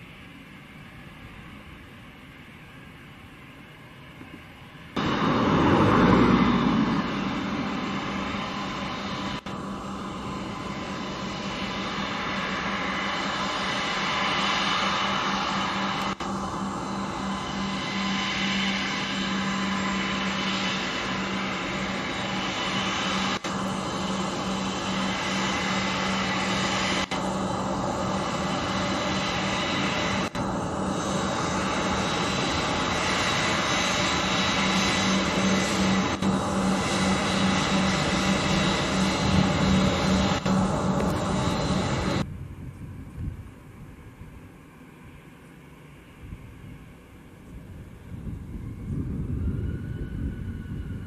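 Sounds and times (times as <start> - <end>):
jet engine whine: 0.0 - 51.0.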